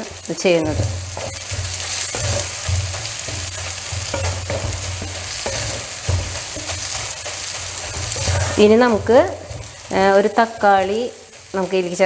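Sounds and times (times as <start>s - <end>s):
onions sizzling in oil: 0.0s - 12.0s
spatula scraping pan: 0.0s - 12.0s.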